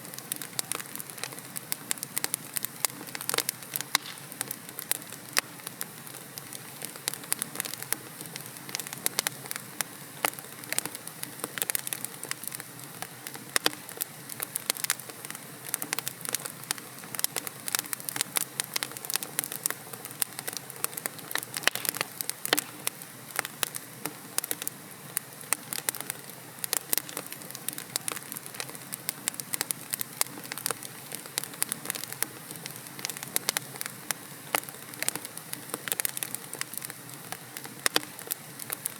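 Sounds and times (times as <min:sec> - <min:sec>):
wood fire crackling and popping: 0:00.0 - 0:38.9
hiss of flame: 0:00.1 - 0:38.9.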